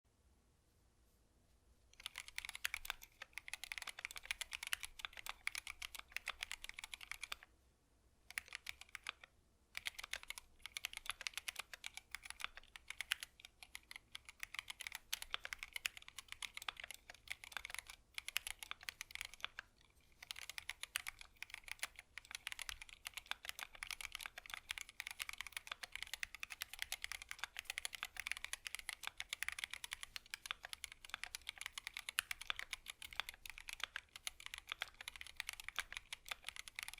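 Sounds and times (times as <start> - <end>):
typing on mechanical keyboard: 2.0 - 7.5, 8.3 - 36.9.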